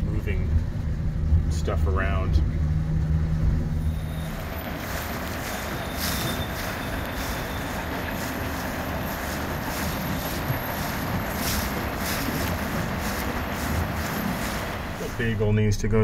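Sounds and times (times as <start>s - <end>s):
freight train rolling past: 0.2s - 16.0s
boat rushing through wind: 0.4s - 15.4s.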